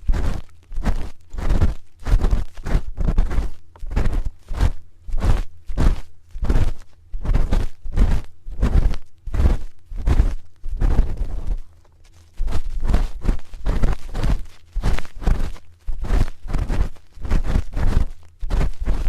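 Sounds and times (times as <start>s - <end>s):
close-up rumble: 0.0s - 19.0s
spoon scraping microphone: 2.2s - 19.0s.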